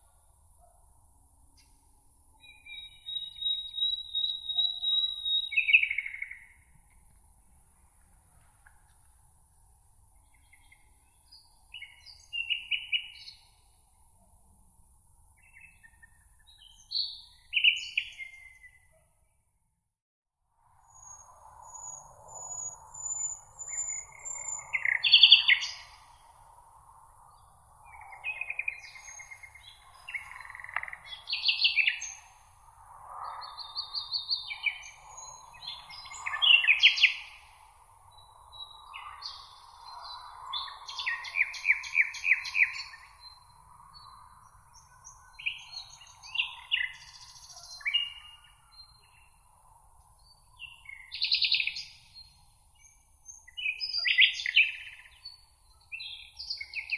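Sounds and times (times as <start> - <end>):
songbirds chirping and trilling: 1.5 - 7.0, 10.0 - 14.1, 15.1 - 19.4, 20.9 - 56.9.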